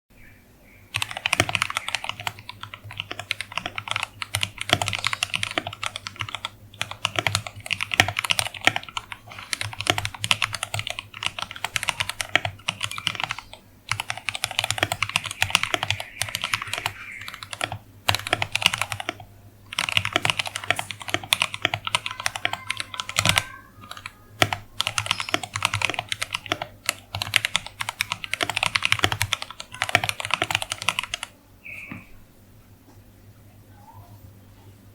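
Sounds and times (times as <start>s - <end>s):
mechanical keyboard typing: 1.0s - 31.3s.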